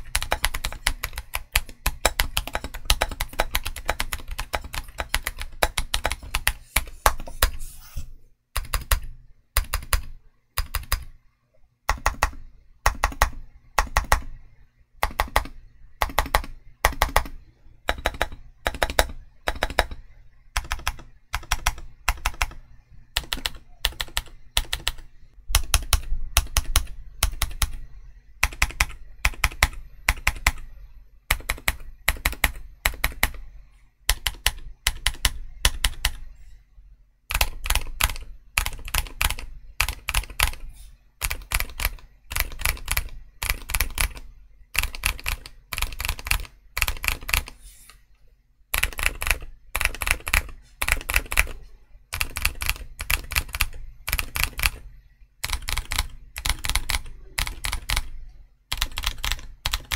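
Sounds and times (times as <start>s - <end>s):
typing on mechanical keyboard: 0.0s - 7.5s, 8.6s - 11.1s, 11.9s - 14.3s, 15.0s - 20.0s, 20.6s - 22.6s, 23.2s - 30.7s, 31.3s - 33.4s, 34.1s - 36.3s, 37.3s - 40.6s, 41.2s - 47.6s, 48.7s - 54.8s, 55.4s - 59.9s.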